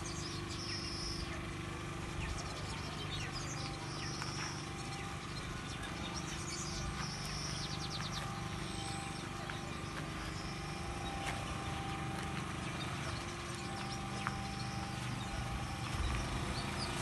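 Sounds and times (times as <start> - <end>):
bird trill: 0.0 - 17.0
birds calling: 0.0 - 17.0
steady low hum: 0.0 - 17.0.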